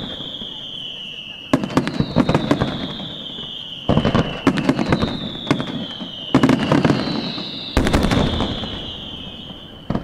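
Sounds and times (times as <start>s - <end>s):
falling firework whistles: 0.0s - 10.0s
firework crackling: 0.0s - 10.0s
firework shells bursting: 1.6s - 10.0s.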